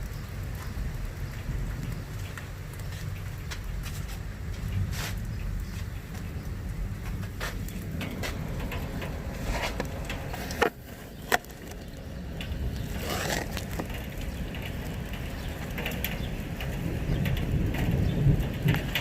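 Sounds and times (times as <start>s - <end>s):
light ticks: 0.0s - 19.0s
low rumble: 0.0s - 19.0s
rain falling: 0.0s - 19.0s.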